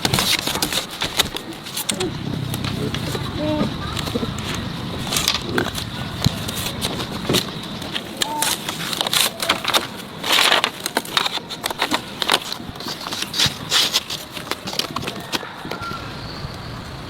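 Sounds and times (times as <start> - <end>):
crackling and rustling: 0.0 - 16.0.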